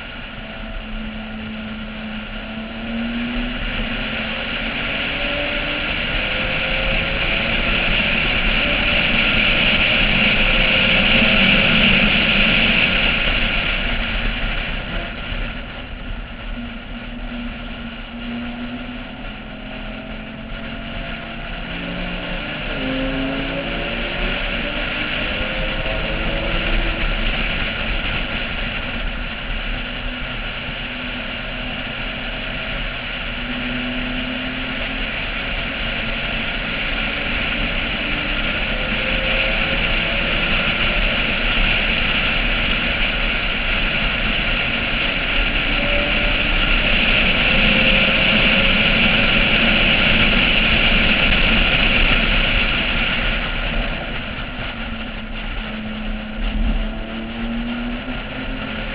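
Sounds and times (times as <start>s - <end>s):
car engine revving: 0.0s - 58.9s
wind rushing over camera: 0.0s - 58.9s.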